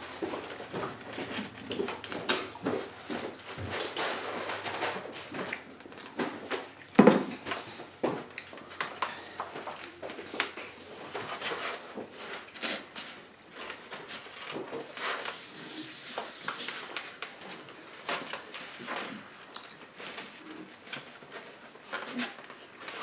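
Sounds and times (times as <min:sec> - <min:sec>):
people chewing: 0:00.0 - 0:23.0
small clicks and rustles: 0:00.2 - 0:23.0.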